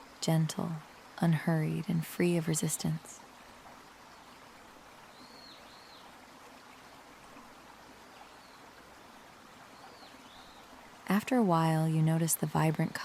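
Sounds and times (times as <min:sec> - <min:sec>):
small river flowing: 0:00.0 - 0:13.0.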